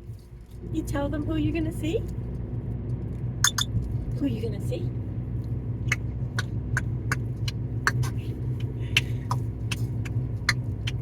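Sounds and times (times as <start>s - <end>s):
car engine hum from inside: 0.0s - 11.0s.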